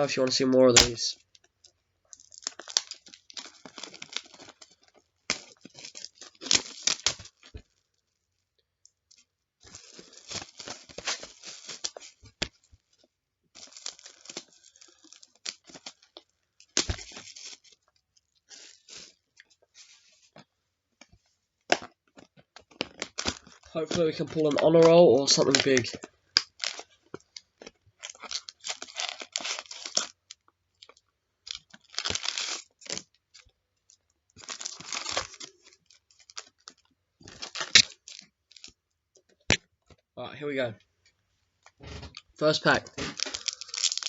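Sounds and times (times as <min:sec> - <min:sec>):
packaging being torn and crinkled: 0:00.7 - 0:08.2, 0:09.1 - 0:12.9, 0:13.5 - 0:20.5, 0:21.7 - 0:38.8, 0:42.2 - 0:44.0.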